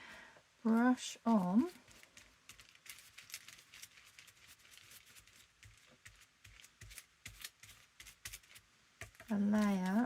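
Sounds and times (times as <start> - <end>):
paintbrush scratching on paper: 0.7 - 10.0.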